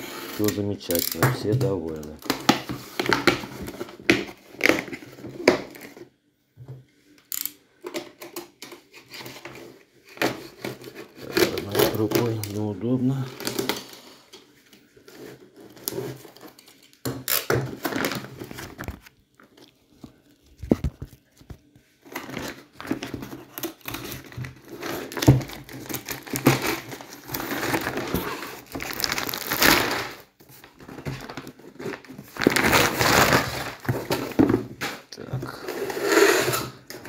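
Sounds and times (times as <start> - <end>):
plastic wrapping crinkling and ripping: 0.0 - 6.0, 10.0 - 35.6.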